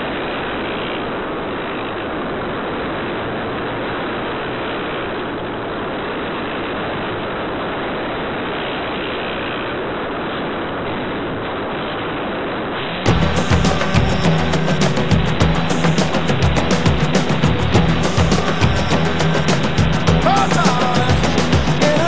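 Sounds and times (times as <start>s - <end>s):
rushing airflow and motor noise: 0.0s - 22.0s.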